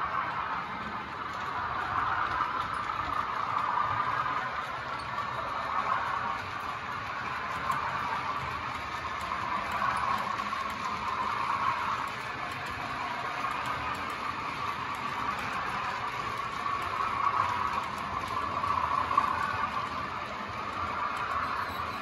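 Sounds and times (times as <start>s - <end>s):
model train diesel engine sound: 0.0s - 22.0s
model wagons ticking over track: 0.0s - 22.0s.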